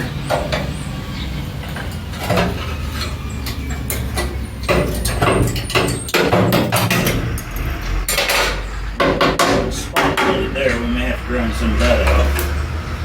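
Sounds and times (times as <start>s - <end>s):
sheet metal scraping and knocking: 1.6s - 12.6s.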